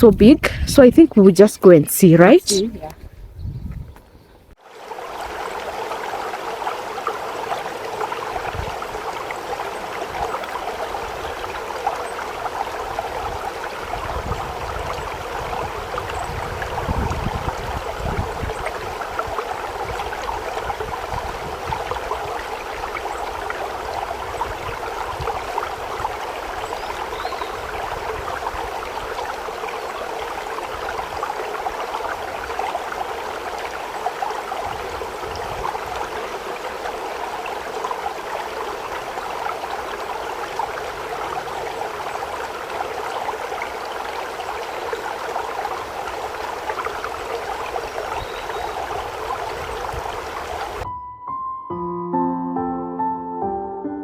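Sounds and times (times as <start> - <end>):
stream water rushing: 3.9 - 50.8.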